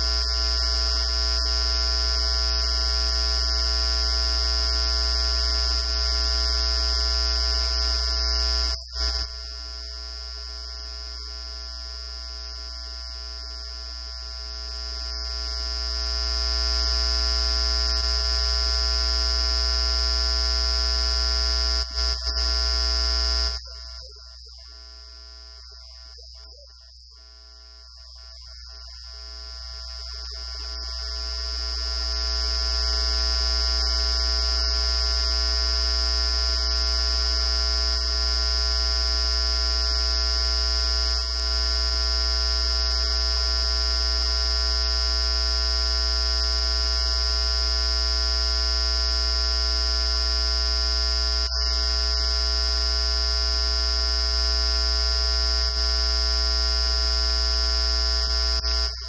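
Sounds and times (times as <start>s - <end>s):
electrical buzz and hum: 0.0s - 59.0s.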